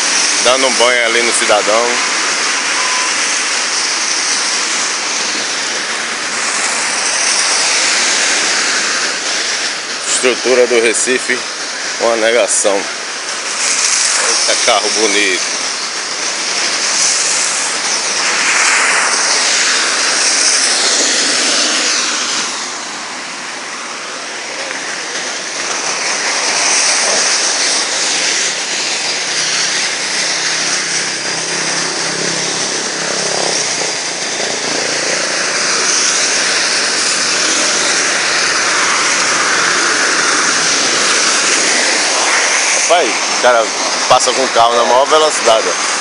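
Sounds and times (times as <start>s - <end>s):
heavy rain pouring: 0.0s - 46.0s.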